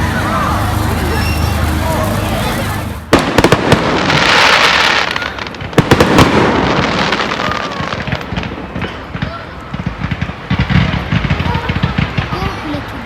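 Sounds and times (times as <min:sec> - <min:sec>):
fireworks bangs: 0:00.0 - 0:13.0
fireworks hissing crackle: 0:00.0 - 0:13.0.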